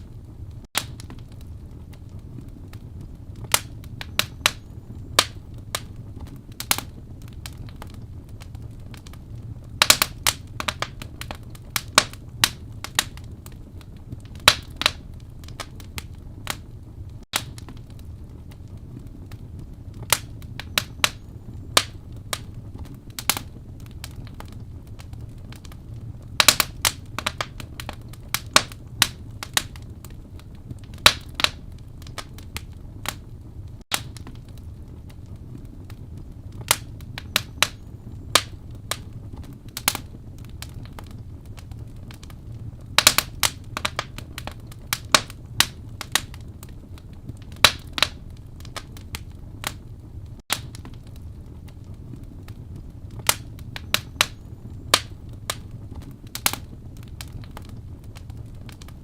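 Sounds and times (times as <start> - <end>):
low rumble of flame: 0.0 - 59.0
wood fire crackling and popping: 0.0 - 59.0.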